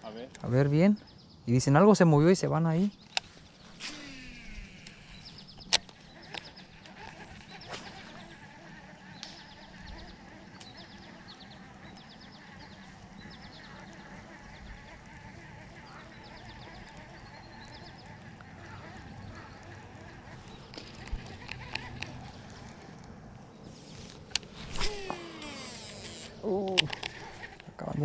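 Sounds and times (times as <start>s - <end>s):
outdoor background: 0.0s - 28.0s
fishing reel spool whirring: 3.5s - 28.0s.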